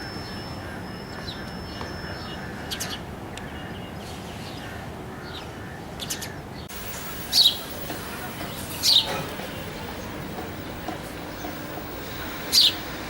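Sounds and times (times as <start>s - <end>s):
sparrows chirping: 0.0s - 13.0s
steady background hiss: 0.0s - 13.0s.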